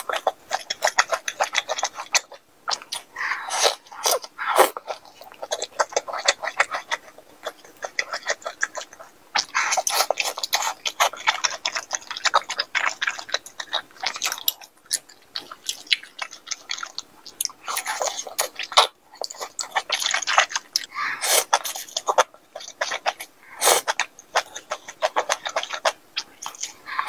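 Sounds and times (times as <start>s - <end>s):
wet chewing with mouth clicks: 0.0s - 27.0s.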